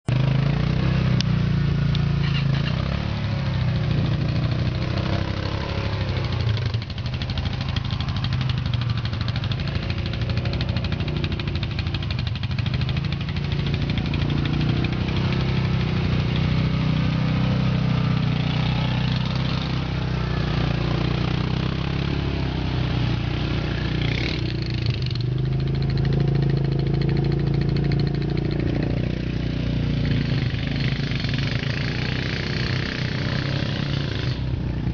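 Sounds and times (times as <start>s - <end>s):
quad bike engines revving: 0.0s - 34.9s.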